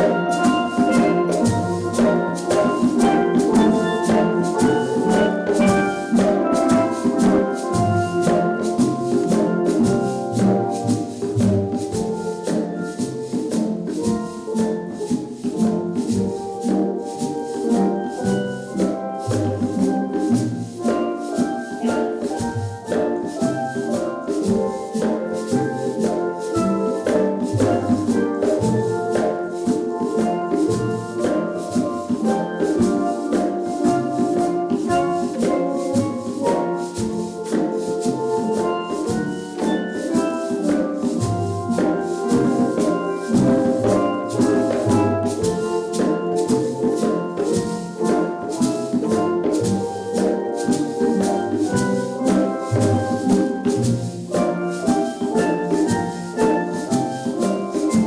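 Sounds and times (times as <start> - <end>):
shaker fast beat: 0.0 - 58.0
steel drum band playing: 0.0 - 58.0.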